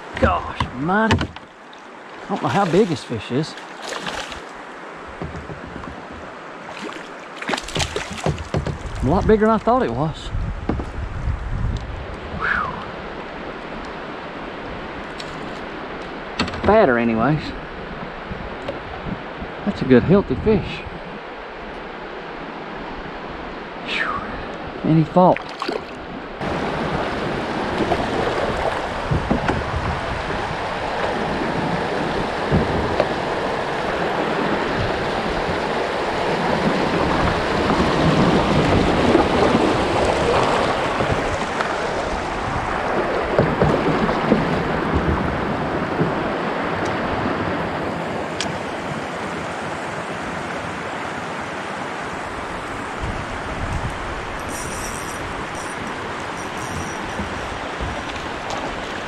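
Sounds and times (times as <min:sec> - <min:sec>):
river water rushing against hull: 0:00.0 - 0:59.0.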